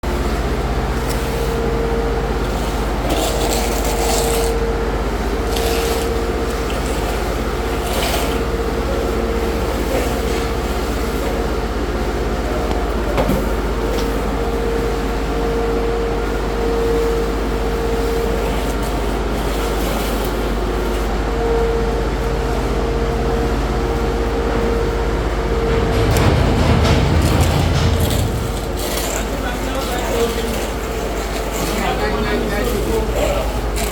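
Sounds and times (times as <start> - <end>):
machine drone with low hum: 0.1 - 33.9.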